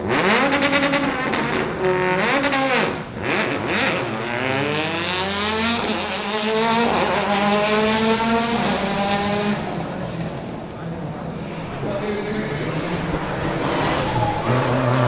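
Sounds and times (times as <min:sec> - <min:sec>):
car engine accelerating hard: 0:00.0 - 0:10.3, 0:11.2 - 0:15.0.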